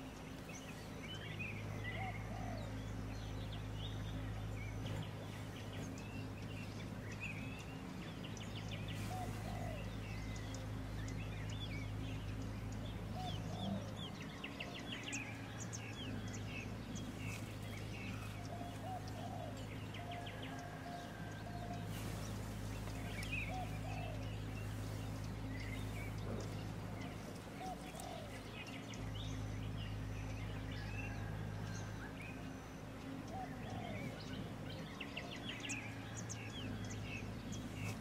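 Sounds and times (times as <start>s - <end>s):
low hum: 0.0s - 38.0s
wild birds calling: 0.0s - 38.0s.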